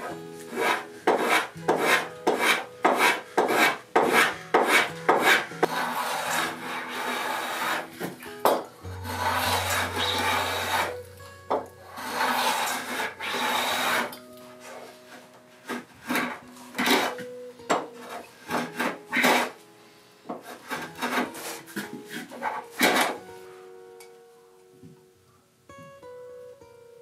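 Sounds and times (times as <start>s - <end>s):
hand plane shaving wood: 0.0s - 19.6s, 20.3s - 23.2s.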